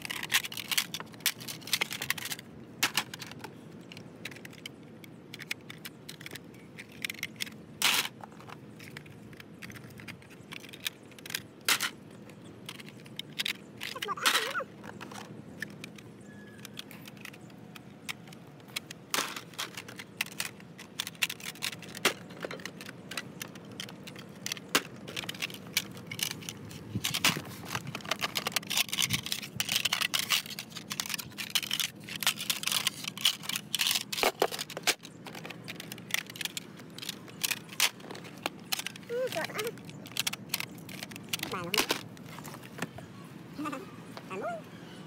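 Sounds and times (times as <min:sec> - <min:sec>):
small hard objects clicking and clattering: 0:00.0 - 0:43.0.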